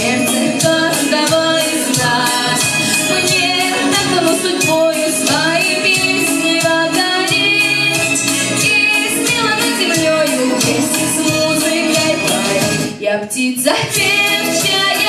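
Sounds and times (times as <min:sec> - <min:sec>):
backing track with steady beat: 0:00.0 - 0:13.0, 0:13.7 - 0:15.0
woman singing pop song: 0:00.0 - 0:15.0.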